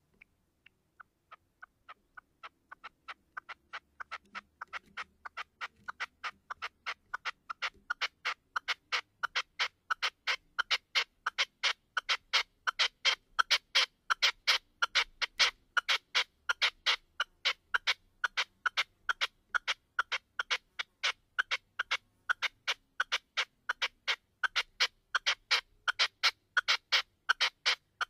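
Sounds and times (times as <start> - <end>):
partridge calling sharp notes: 0.0 - 28.0.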